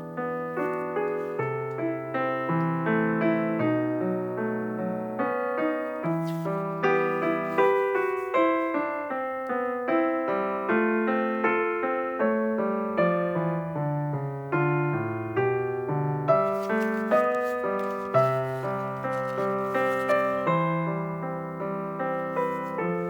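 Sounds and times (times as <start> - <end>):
slow piano piece: 0.0 - 23.0.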